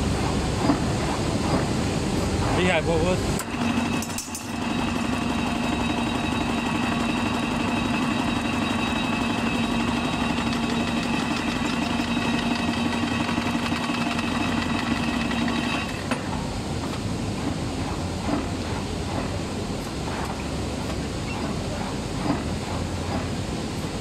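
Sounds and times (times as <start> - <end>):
bending machine humming: 0.0 - 24.0.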